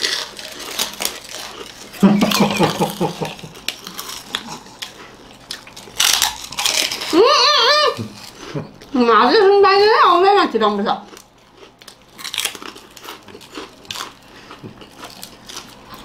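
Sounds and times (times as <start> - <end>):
crunching chips: 0.0 - 8.7, 11.0 - 16.0.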